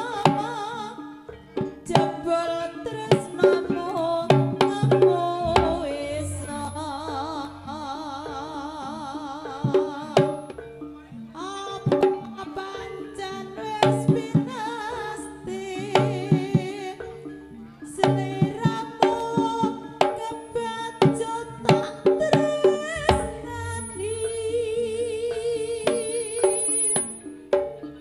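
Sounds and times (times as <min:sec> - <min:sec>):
hand drum strikes: 0:00.0 - 0:28.0
wavering pitched melody: 0:00.0 - 0:28.0.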